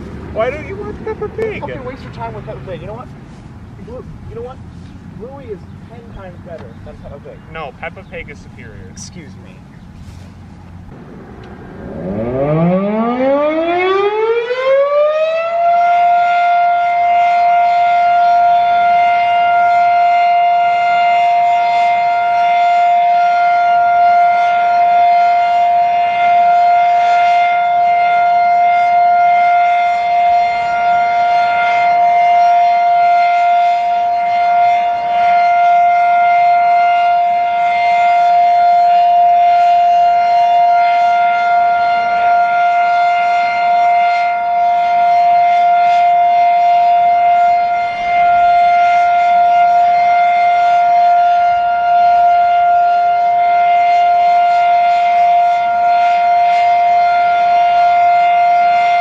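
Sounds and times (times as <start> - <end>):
warning siren winding up: 11.3 - 59.0.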